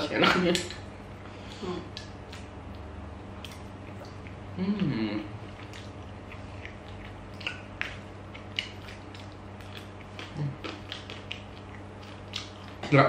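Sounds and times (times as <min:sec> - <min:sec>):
steady low hum: 0:00.0 - 0:13.0
people chewing food: 0:00.3 - 0:13.0.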